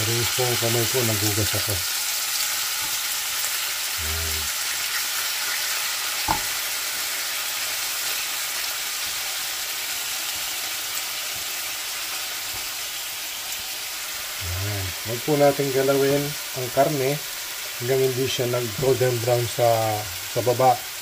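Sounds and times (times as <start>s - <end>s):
beef sizzling in a frying pan: 0.0s - 21.0s.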